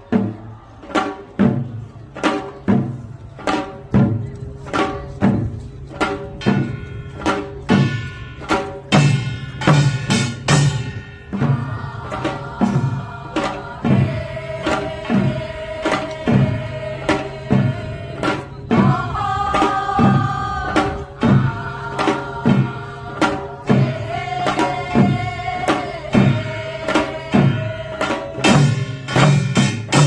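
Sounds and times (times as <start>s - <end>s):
drum strokes: 0.0s - 30.0s.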